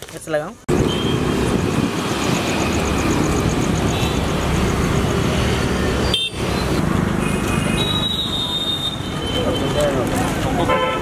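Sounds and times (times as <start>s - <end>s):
road traffic rumble: 0.6s - 11.0s.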